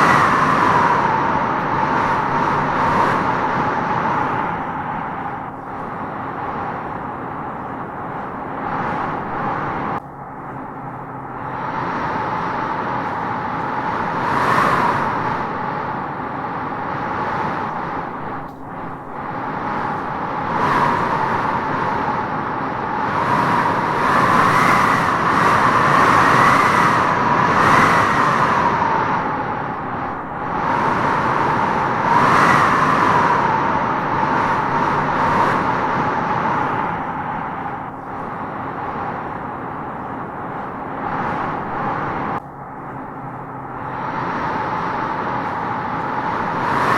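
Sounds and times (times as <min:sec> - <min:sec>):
strong wind howling through trees: 0:00.0 - 0:46.9.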